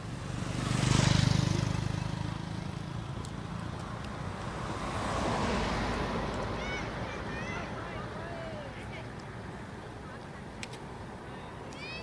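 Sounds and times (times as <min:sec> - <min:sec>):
vehicle passing by: 0:00.0 - 0:10.1.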